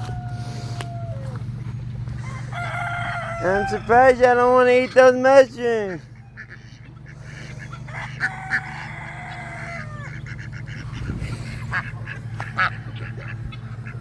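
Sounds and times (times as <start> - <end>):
poultry honking and squawking: 0.0 - 14.0
steady low hum: 0.0 - 14.0.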